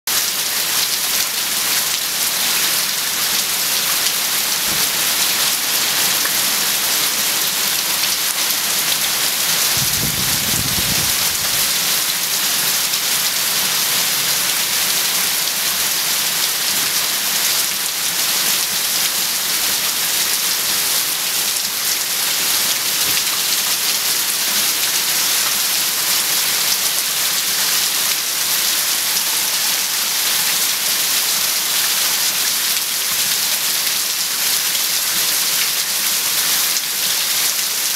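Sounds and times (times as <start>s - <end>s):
heavy rain on cars: 0.2s - 37.9s.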